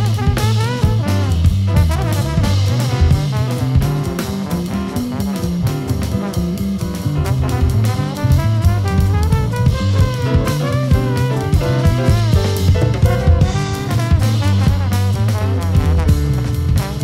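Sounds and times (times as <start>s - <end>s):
drum kit: 0.0s - 17.0s
electric bass line: 0.0s - 17.0s
horn lines: 0.0s - 17.0s.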